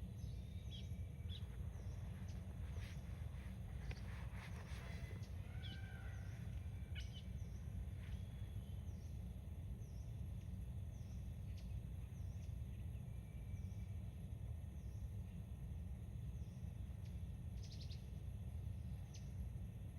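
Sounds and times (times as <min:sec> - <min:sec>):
steady low rumble: 0:00.0 - 0:19.9.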